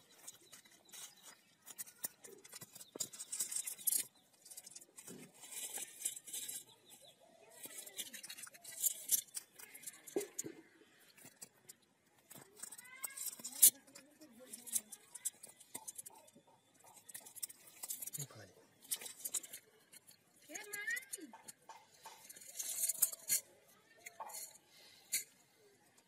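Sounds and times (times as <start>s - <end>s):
wet crackling of net: 0.0s - 25.3s.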